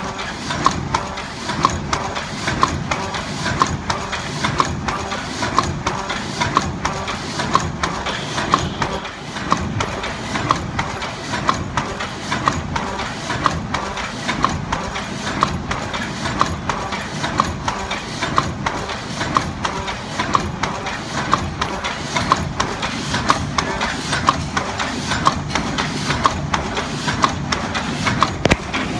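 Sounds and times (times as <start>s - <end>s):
machine clattering: 0.0s - 28.9s.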